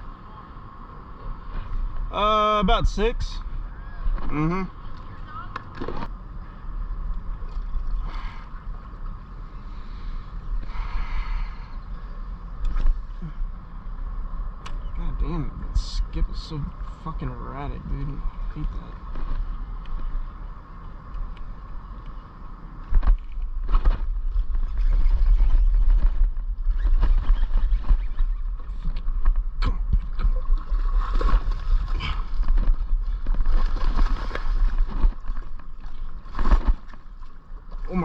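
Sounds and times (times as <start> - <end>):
faint steady whine: 0.0 - 38.0
wind rumble: 0.0 - 38.0.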